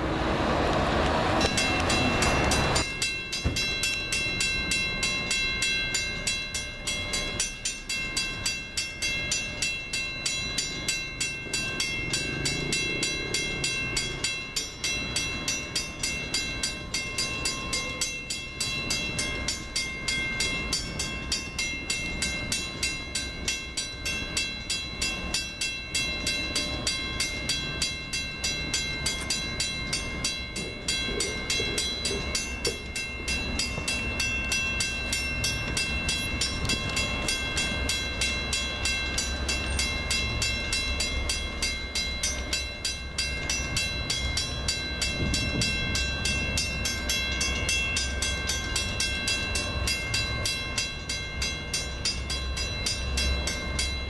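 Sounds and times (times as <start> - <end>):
crossing bell ringing: 0.0 - 54.0.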